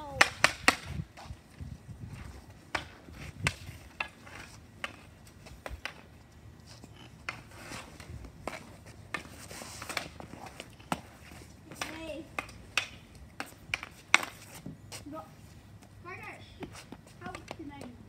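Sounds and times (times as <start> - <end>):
hockey stick clacking ball on asphalt: 0.0 - 1.4, 2.2 - 15.1, 15.7 - 18.0.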